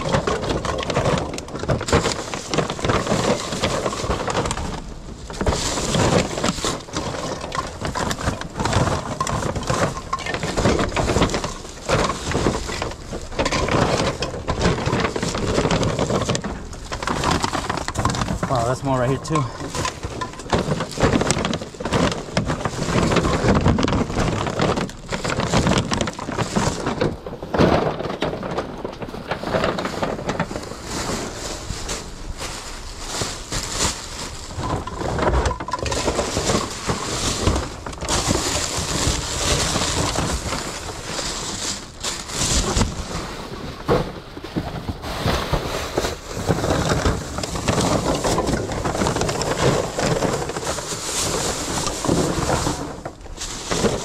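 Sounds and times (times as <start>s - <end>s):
plastic bags rustling: 0.0s - 54.0s.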